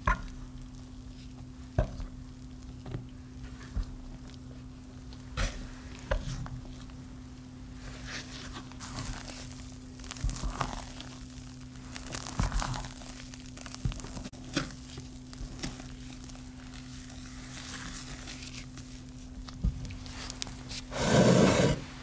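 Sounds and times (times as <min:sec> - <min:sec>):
spatula squelching batter: 0:00.0 - 0:21.7
low steady hum: 0:00.0 - 0:22.0.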